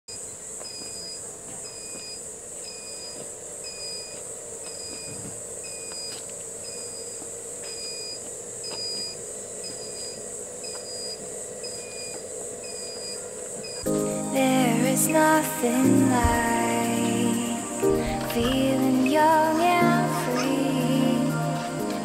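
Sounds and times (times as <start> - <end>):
high insect drone: 0.1 - 22.0.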